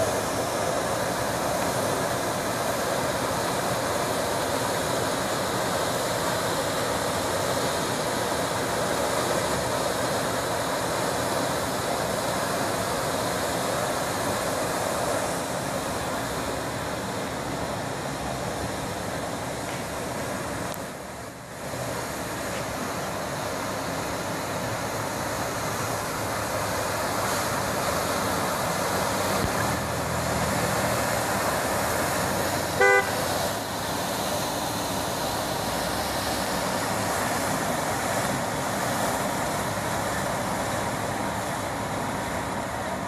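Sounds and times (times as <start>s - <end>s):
water gushing from hydrant: 0.0s - 43.0s.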